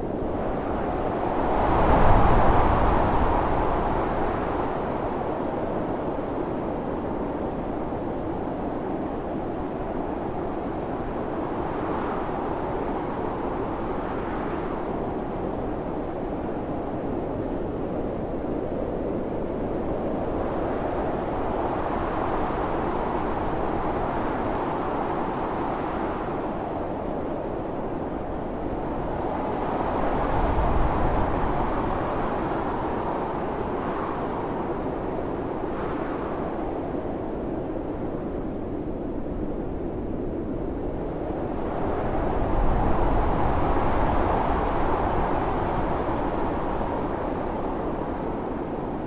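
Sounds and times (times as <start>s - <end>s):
blizzard wind gusting: 0.0s - 49.0s.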